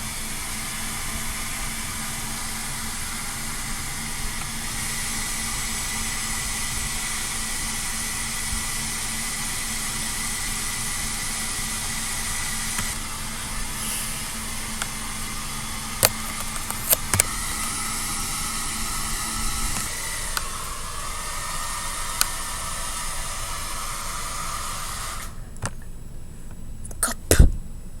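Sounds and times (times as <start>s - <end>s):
hair dryer blowing: 0.0s - 25.8s.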